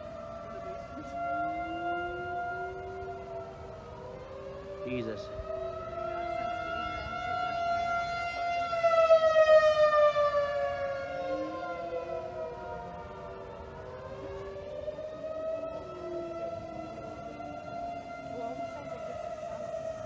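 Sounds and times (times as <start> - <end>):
lower-pitched siren rising and falling: 0.0 - 20.0
tornado sirens wailing: 0.0 - 20.0.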